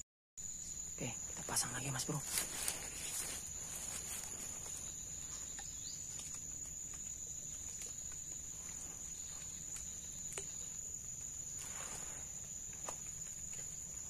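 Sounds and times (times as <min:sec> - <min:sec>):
high-pitched insect call: 0:00.4 - 0:14.0.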